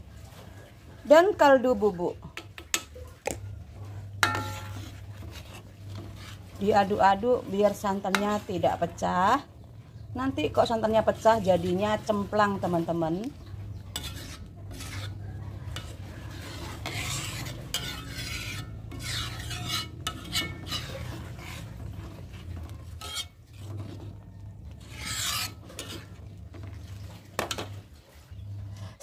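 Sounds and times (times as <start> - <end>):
metal ladle scraping wok: 0.1 - 29.0.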